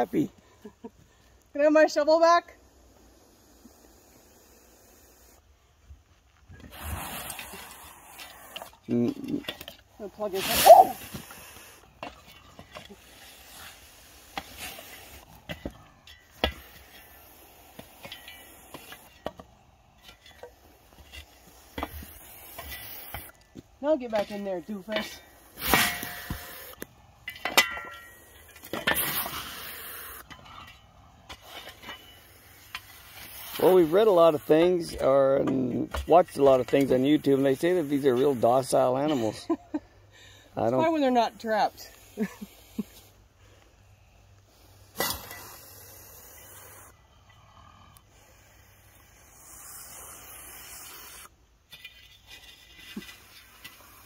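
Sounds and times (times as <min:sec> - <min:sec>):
harsh scraping hiss: 0:00.0 - 0:39.5, 0:40.4 - 0:54.0.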